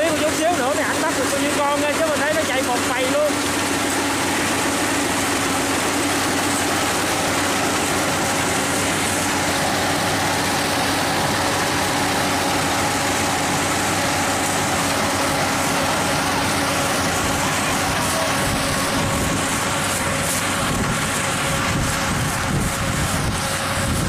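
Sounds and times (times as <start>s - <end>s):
combine harvester running: 0.0s - 24.0s.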